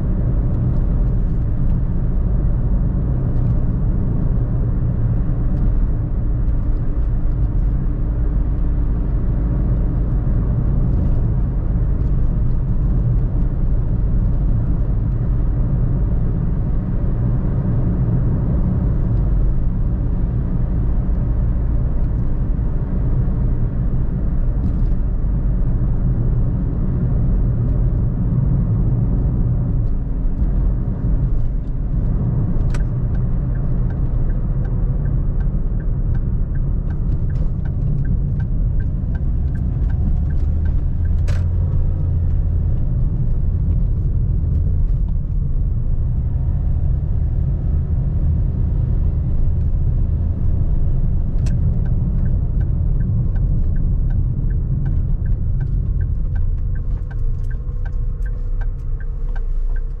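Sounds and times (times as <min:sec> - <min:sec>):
car tyres and engine rumble: 0:00.0 - 1:00.0.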